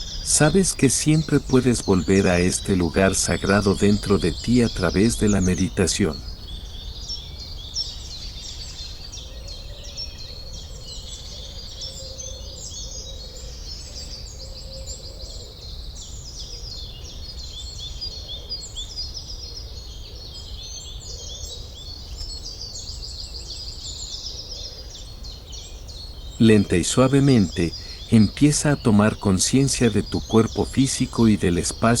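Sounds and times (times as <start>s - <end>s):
low steady background hiss: 0.0s - 32.0s
small birds chirping and trilling: 0.0s - 32.0s.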